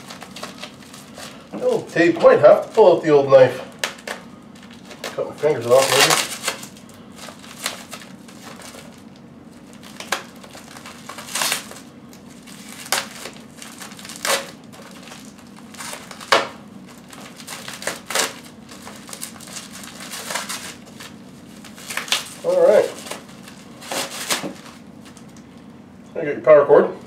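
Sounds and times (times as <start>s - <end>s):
plastic wrap crinkling: 0.0s - 25.8s.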